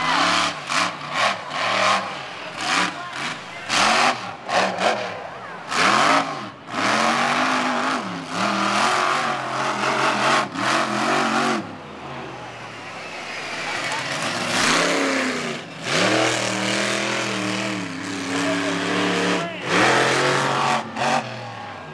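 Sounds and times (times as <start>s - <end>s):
truck engine revving: 0.0s - 21.9s.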